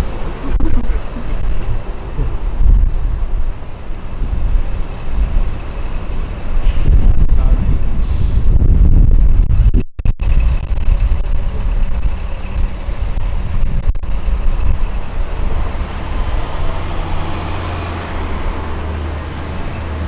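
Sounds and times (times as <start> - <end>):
large vehicle engine drone: 0.0 - 20.0
traffic rumble: 0.0 - 20.0.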